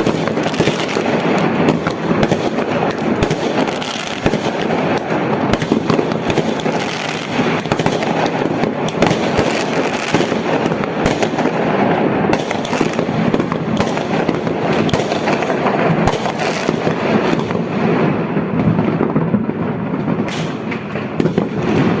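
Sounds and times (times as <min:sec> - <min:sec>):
fireworks bursting: 0:00.0 - 0:22.0
sharp firework cracks: 0:00.0 - 0:22.0.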